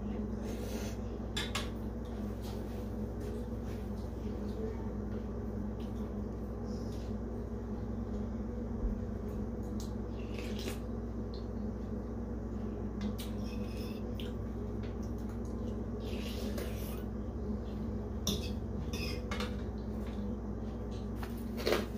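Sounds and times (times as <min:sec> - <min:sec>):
soft eating sounds: 0:00.0 - 0:21.9
steady low hum: 0:00.0 - 0:21.9.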